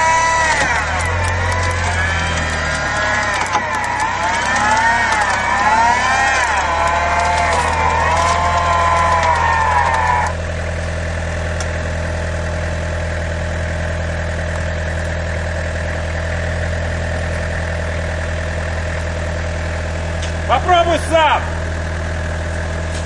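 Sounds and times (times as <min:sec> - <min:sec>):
engine idling: 0:00.0 - 0:23.0
winch motor whining: 0:00.0 - 0:23.0.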